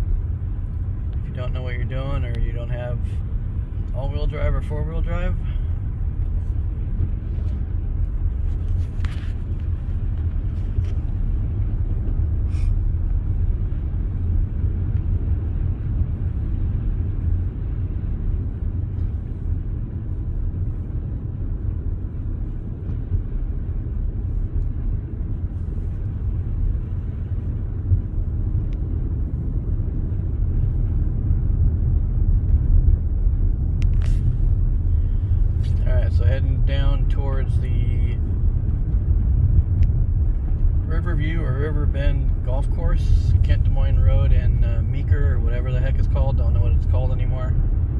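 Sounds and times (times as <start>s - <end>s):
car engine and tyres rumbling: 0.0s - 47.9s.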